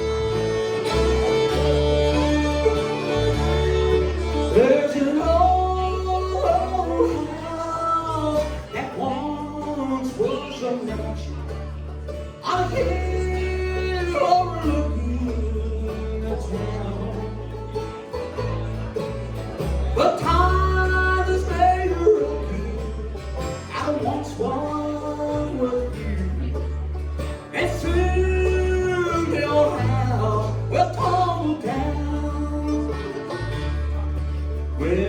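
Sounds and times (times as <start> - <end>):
banjo: 0.0 - 35.0
guitar: 0.0 - 35.0
low bass notes: 0.0 - 35.0.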